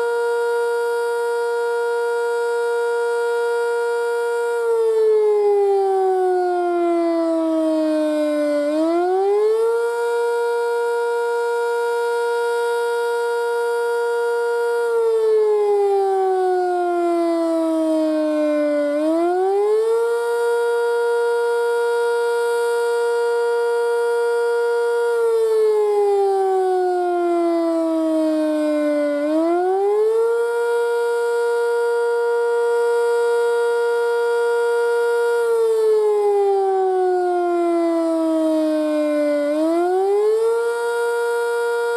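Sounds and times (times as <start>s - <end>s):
warning siren wailing: 0.0s - 41.9s.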